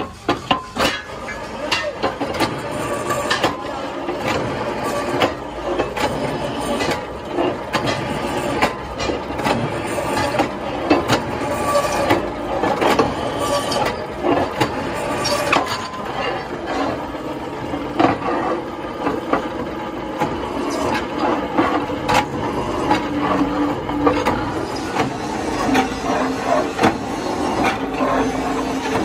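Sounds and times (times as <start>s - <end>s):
drill press running: 0.0s - 29.0s.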